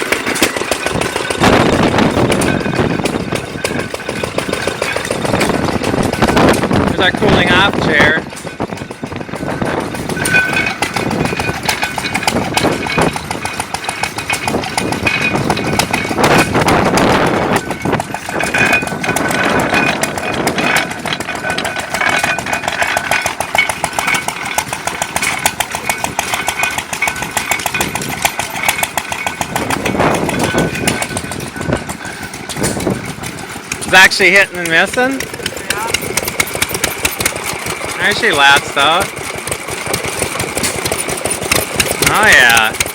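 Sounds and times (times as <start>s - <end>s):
old gas engines chuffing: 0.0s - 42.9s.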